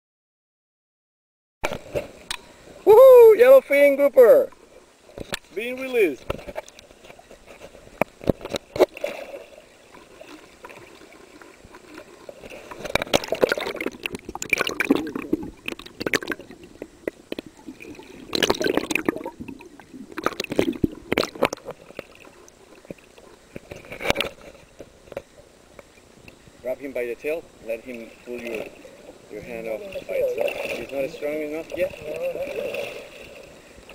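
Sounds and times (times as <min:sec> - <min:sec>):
water splashes: 0:01.6 - 0:33.9
seawater sloshing and gurgling: 0:04.2 - 0:25.4, 0:26.0 - 0:33.9.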